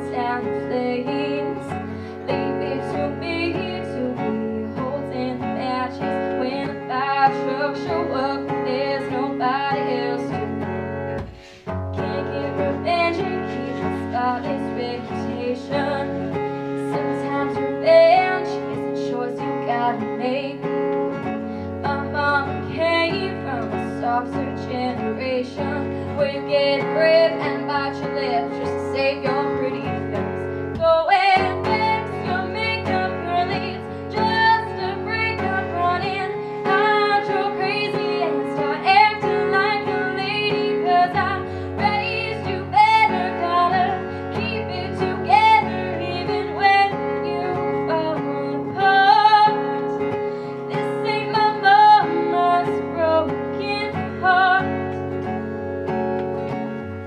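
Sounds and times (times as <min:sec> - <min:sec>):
woman singing: 0:00.0 - 0:55.4
acoustic guitar strumming: 0:00.0 - 0:57.0.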